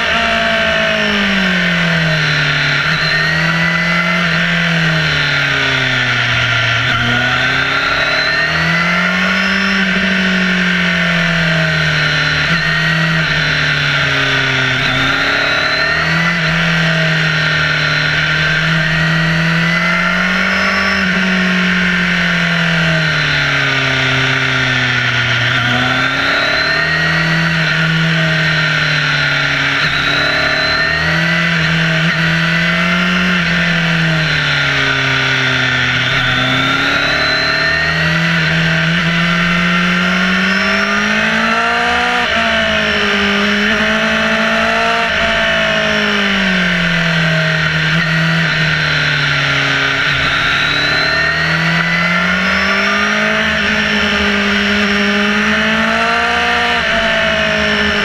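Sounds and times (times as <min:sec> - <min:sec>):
motorcycle engine revving: 0:00.0 - 0:58.0
road noise: 0:00.0 - 0:58.0.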